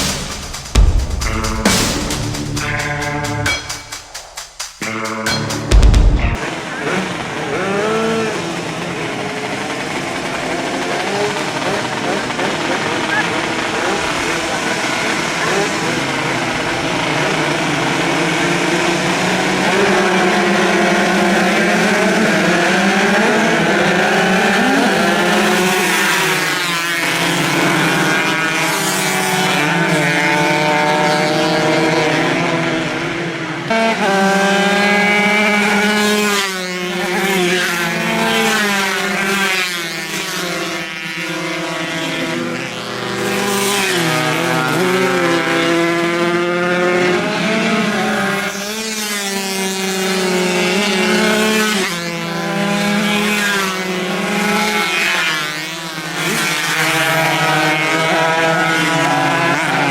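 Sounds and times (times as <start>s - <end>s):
racing motorcycle engines: 0.0s - 59.9s
motorcycles sweeping past: 6.4s - 59.9s.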